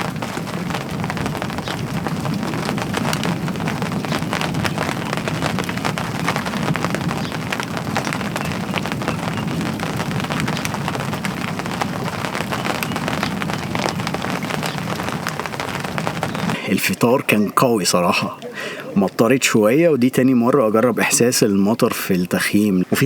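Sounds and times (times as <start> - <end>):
rain drops hitting surface: 0.0 - 23.0.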